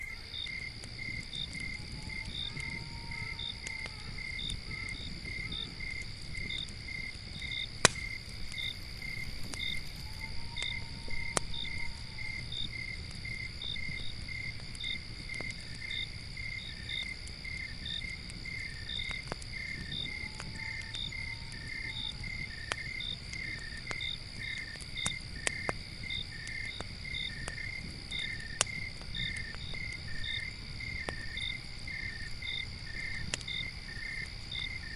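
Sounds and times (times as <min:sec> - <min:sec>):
campfire crackling pops: 0:00.0 - 0:34.9
crickets chirping: 0:00.0 - 0:34.9
high insect trill: 0:00.0 - 0:34.9.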